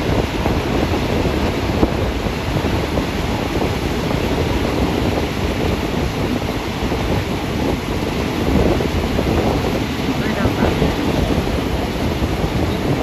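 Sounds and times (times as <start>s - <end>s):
train running on track: 0.0s - 13.0s
wind buffeting microphone: 0.0s - 13.0s.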